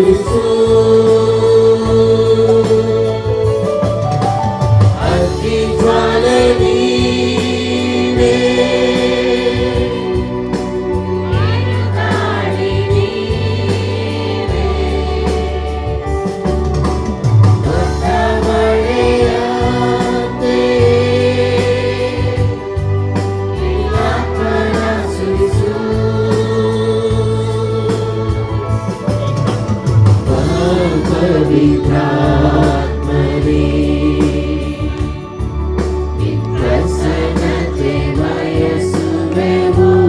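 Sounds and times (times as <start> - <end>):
choir singing worship song: 0.0 - 40.0
musical accompaniment: 0.0 - 40.0.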